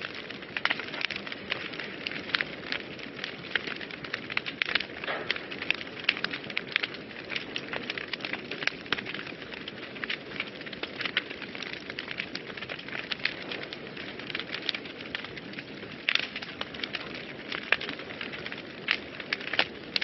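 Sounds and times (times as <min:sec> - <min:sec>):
fire crackling and popping: 0:00.0 - 0:20.0
fire flames hissing: 0:00.0 - 0:20.0.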